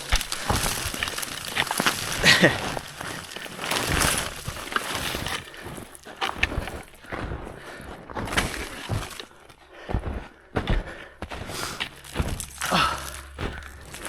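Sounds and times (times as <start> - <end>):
boots crunching on snow: 0.0 - 14.0.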